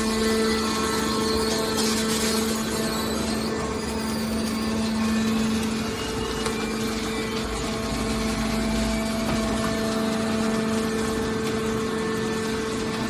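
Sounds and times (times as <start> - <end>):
baler motor and pump humming: 0.0 - 13.0.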